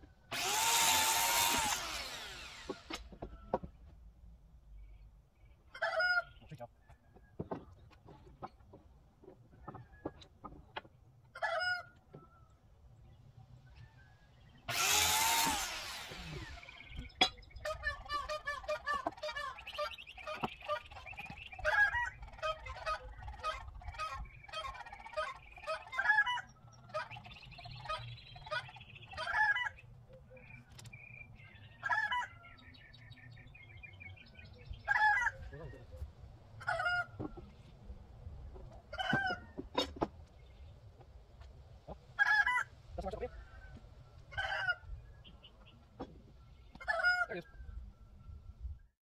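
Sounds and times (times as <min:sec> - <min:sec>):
chickens calling: 0:05.5 - 0:48.4.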